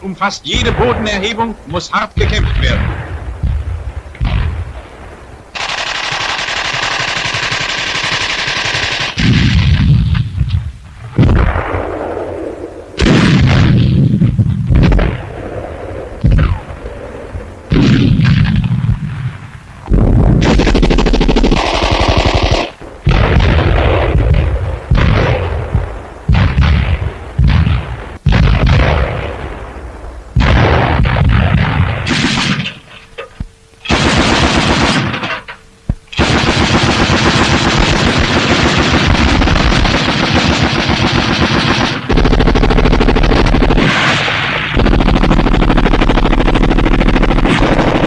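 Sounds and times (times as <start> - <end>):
machine-gun fire: 0.5 - 33.1, 33.8 - 48.0.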